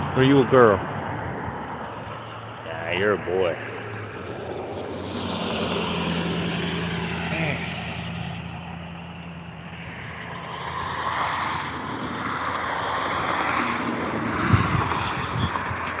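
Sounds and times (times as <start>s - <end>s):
distant engine rushing: 0.0s - 16.0s.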